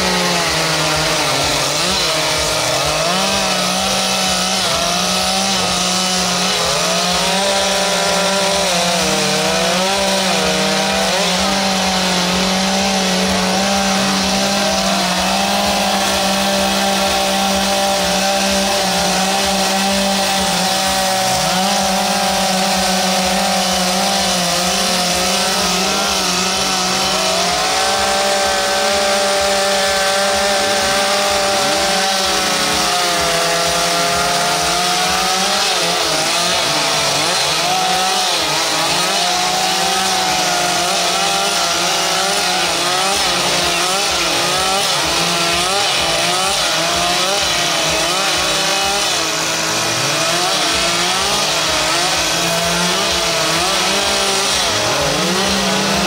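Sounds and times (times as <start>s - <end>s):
chainsaws cutting wood: 0.0s - 56.0s.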